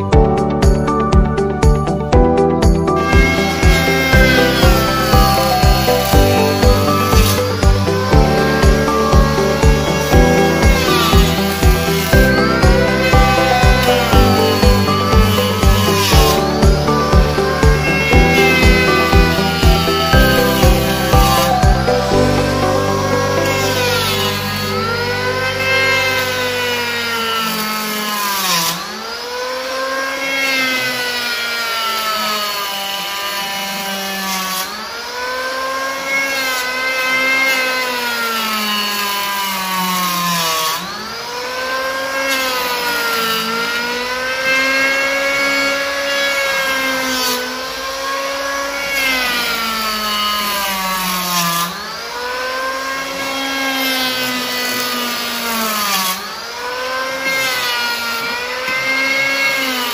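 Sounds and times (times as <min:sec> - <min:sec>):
electric hand planer cutting wood: 0:00.0 - 0:59.9.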